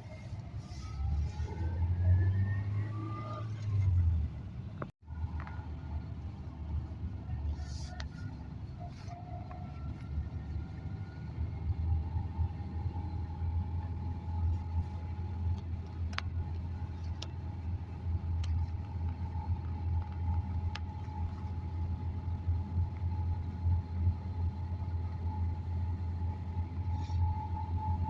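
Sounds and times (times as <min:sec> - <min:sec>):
car driving rumble: 0:00.0 - 0:28.0.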